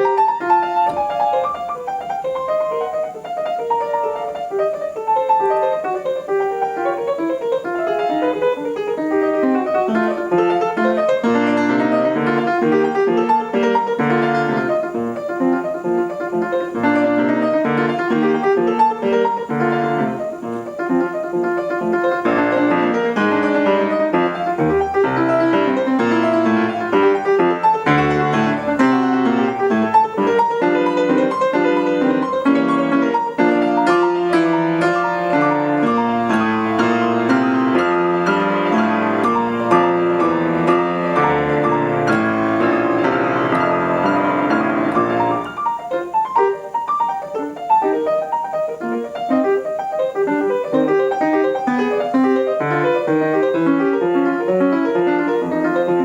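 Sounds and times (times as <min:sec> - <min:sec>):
solo piano playing: 0:00.0 - 0:56.0.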